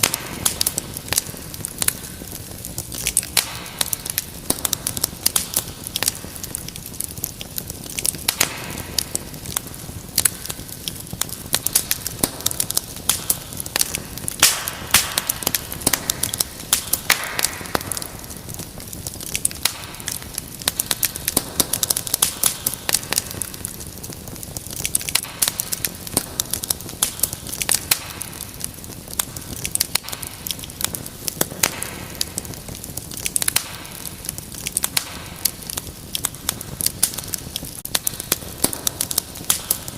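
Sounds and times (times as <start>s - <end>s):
fire crackling and popping: 0.0s - 39.9s
hiss of flames: 0.0s - 39.9s.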